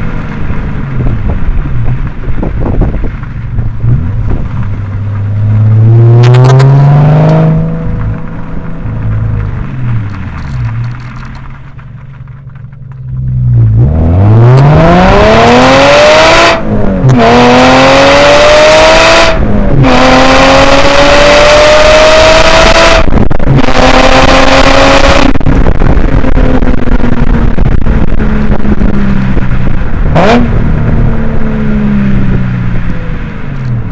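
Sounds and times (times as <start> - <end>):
car engine accelerating: 0.0 - 33.9
wind noise on microphone: 0.0 - 33.9.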